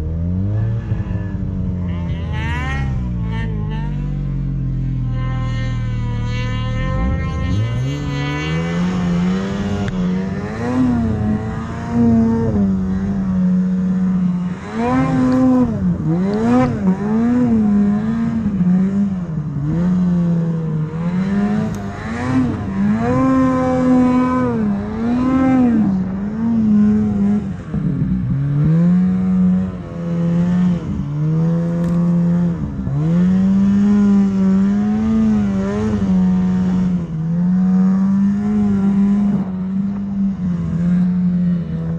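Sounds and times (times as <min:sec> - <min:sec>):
snowmobile engine revving: 0:00.0 - 0:41.9.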